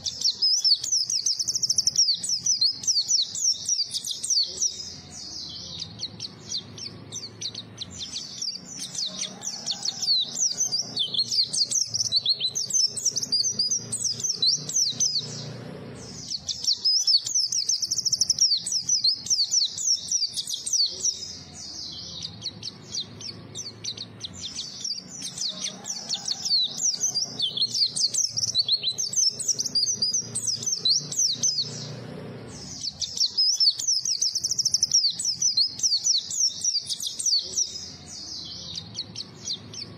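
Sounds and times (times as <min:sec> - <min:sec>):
white-eye twittering song: 0:00.0 - 0:39.9.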